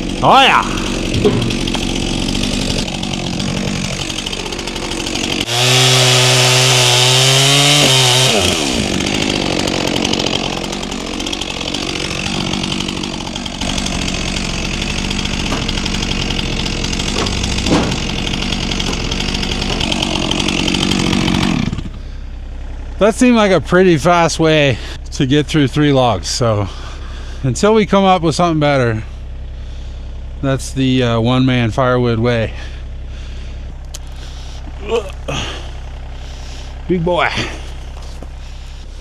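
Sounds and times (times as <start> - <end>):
chainsaw cutting logs: 0.0 - 39.0.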